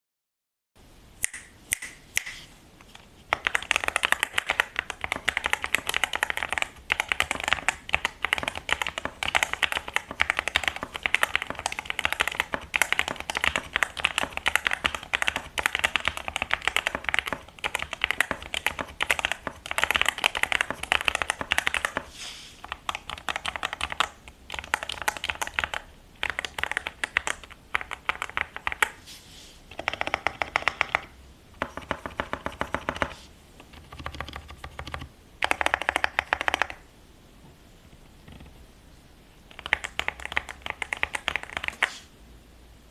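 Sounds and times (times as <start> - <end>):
mechanical keyboard typing: 3.3 - 29.0, 29.7 - 36.8, 39.5 - 41.9.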